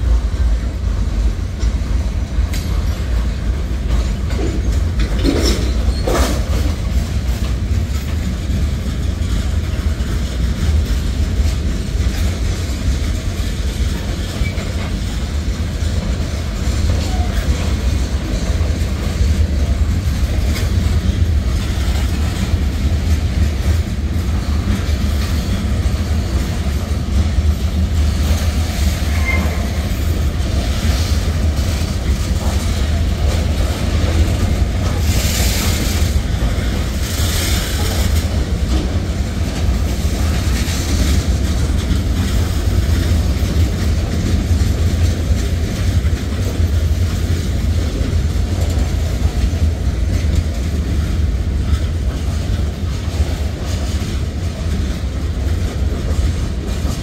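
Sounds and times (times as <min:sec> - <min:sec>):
freight train rumbling past: 0:00.0 - 0:57.0
wheel clatter on rails: 0:00.0 - 0:57.0.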